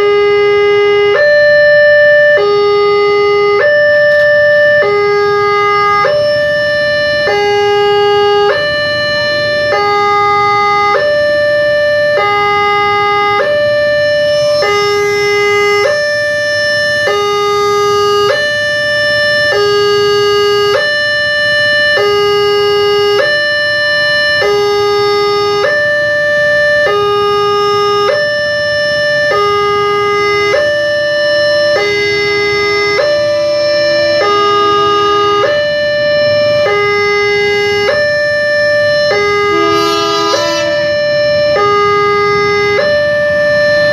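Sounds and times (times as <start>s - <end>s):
level crossing two-tone alarm: 0.0s - 43.9s
low traffic rumble: 0.0s - 43.9s.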